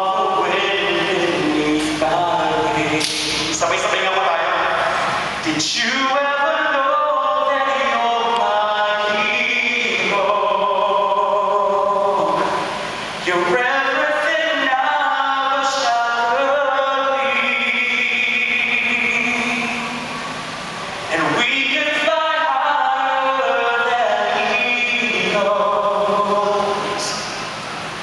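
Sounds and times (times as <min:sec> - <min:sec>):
man singing solo: 0:00.0 - 0:04.8, 0:05.4 - 0:20.0, 0:21.1 - 0:27.3.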